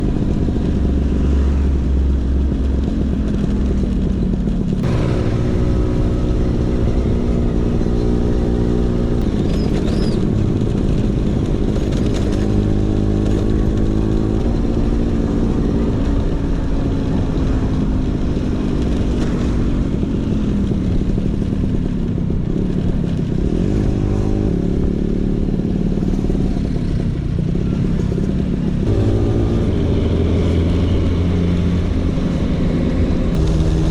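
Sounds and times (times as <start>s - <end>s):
scooter engine revving: 3.3s - 33.9s.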